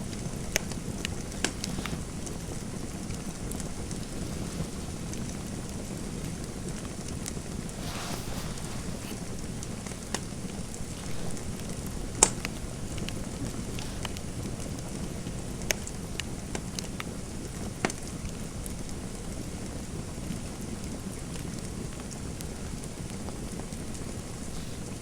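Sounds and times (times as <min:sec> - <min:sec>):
fireplace fire crackling: 0:00.0 - 0:25.0.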